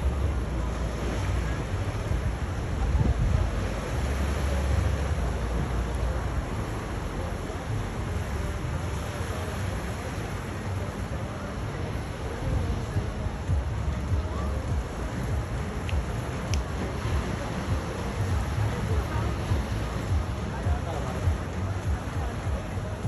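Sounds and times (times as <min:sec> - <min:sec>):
steady outdoor rushing: 0:00.0 - 0:23.0.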